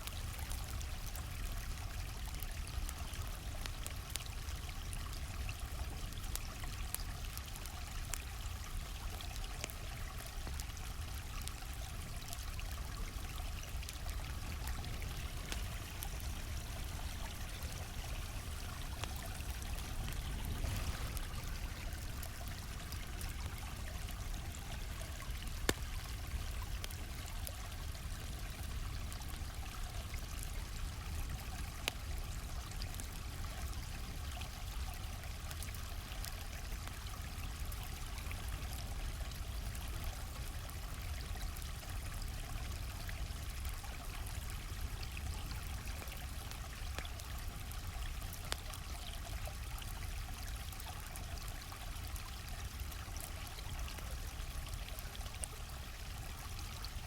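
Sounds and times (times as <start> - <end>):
campfire crackling and popping: 0.0 - 57.0
stream flowing: 0.0 - 57.0.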